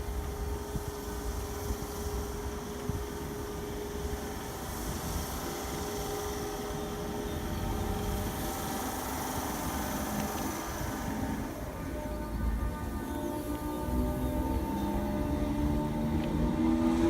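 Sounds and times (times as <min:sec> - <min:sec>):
faint steady tones: 0:00.0 - 0:17.0.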